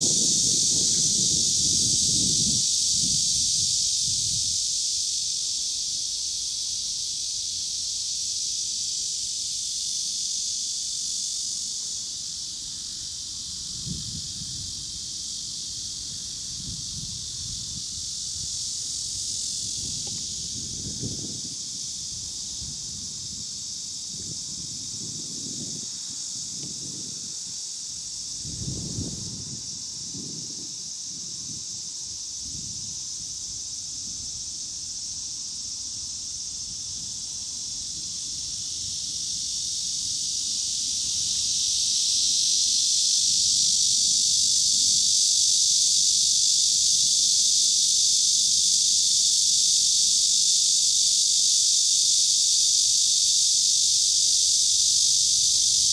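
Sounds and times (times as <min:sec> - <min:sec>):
cicadas droning: 0:00.0 - 0:55.9.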